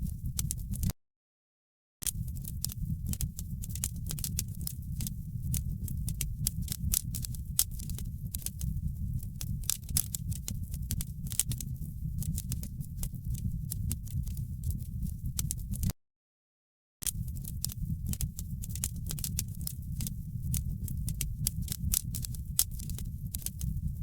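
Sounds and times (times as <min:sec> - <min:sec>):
low rumble of flames: 0:00.0 - 0:00.9, 0:02.1 - 0:15.9, 0:17.1 - 0:24.0
wood fire crackling: 0:02.1 - 0:15.9, 0:17.1 - 0:24.0.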